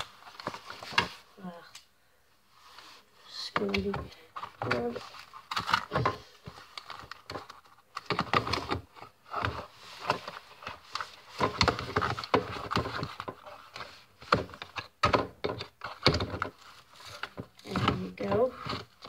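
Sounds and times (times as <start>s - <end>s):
cardboard box rustling: 0.0s - 1.3s, 2.8s - 19.0s.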